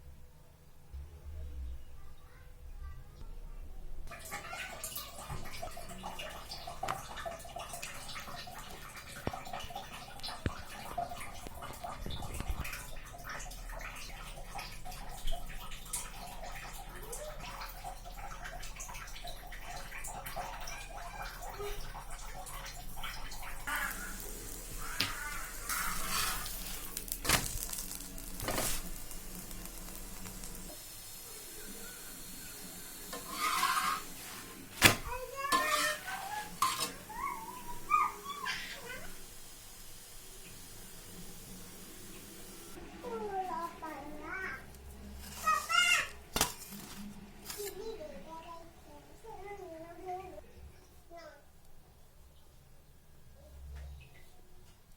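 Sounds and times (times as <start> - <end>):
water running and splashing: 4.1 - 50.4.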